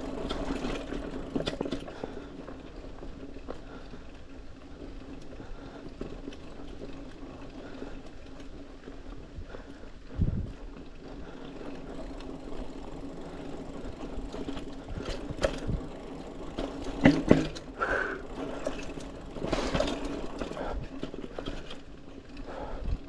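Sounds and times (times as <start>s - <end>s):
bike rattling over bumps: 0.0s - 23.0s
bike tyres on dirt: 0.0s - 23.0s.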